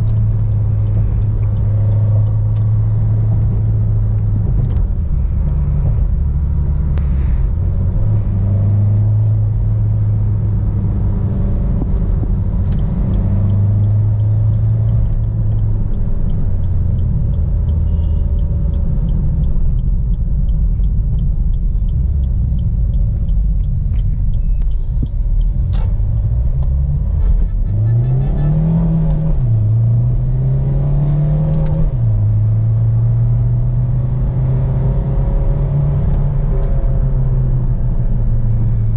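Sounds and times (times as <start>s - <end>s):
diesel car engine running: 0.0s - 38.9s
road noise: 0.0s - 38.9s.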